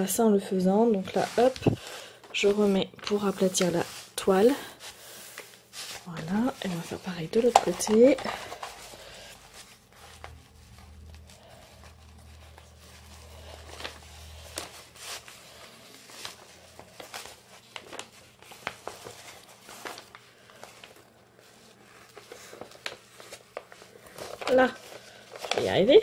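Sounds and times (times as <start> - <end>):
plastic film crinkling: 0.8 - 26.0.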